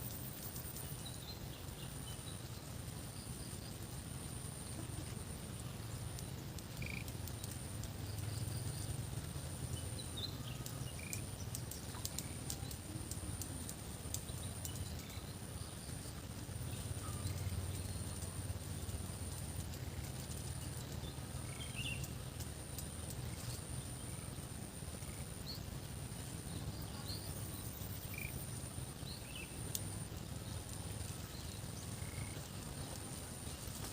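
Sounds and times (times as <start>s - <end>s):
low steady rumble: 0.0s - 33.9s.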